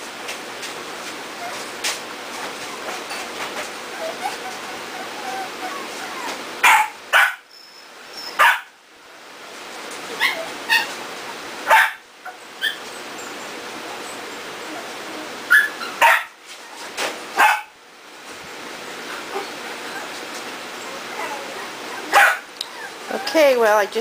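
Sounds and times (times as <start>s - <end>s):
puppies yipping and barking: 1.3s - 8.7s, 10.0s - 17.8s, 18.5s - 23.6s.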